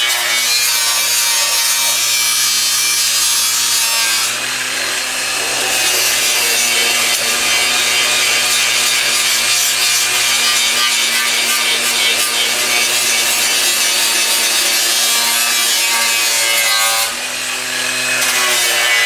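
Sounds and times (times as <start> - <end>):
angle grinder cutting steel: 0.0 - 19.0.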